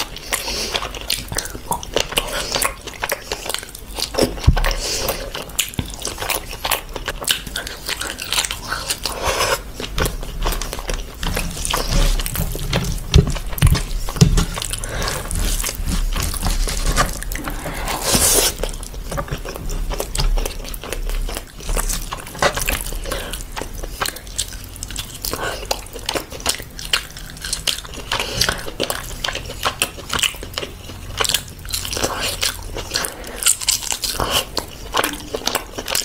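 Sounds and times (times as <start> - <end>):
chewing and smacking: 0.0 - 36.0.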